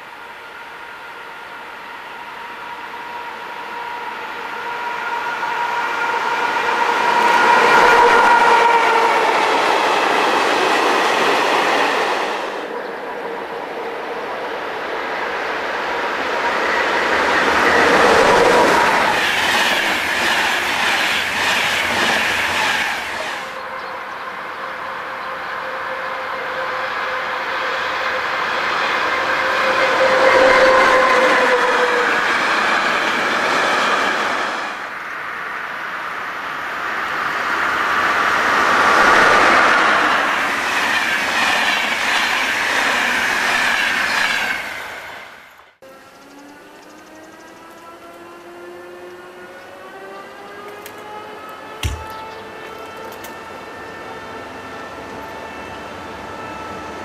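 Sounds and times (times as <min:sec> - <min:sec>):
trains passing: 0:00.0 - 0:57.0.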